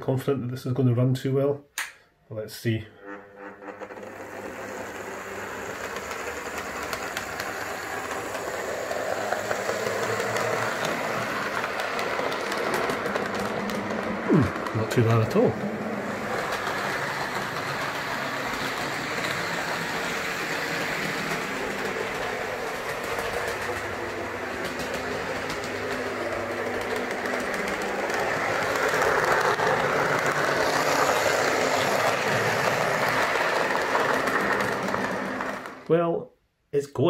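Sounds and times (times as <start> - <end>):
wheels clicking over rails: 3.0 - 35.9
small electric motor whirring: 3.1 - 35.7.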